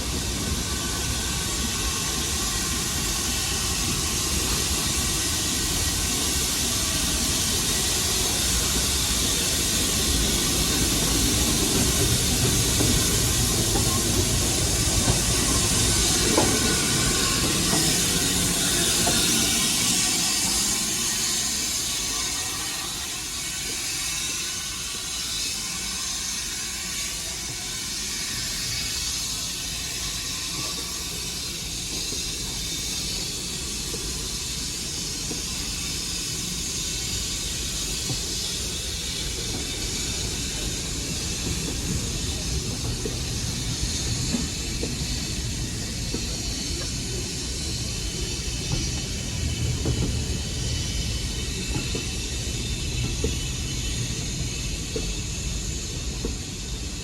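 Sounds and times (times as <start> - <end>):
rail noise: 0.0 - 57.0
steam train rushing steam: 0.0 - 57.0.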